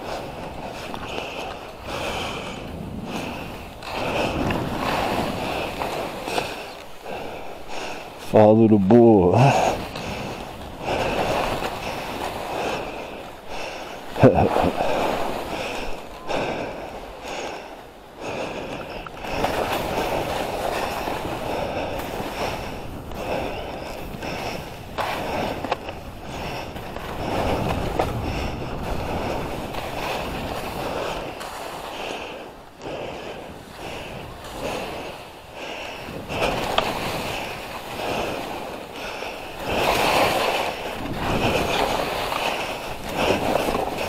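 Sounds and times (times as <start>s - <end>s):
skis scraping through snow: 0.0s - 8.3s, 9.3s - 44.0s.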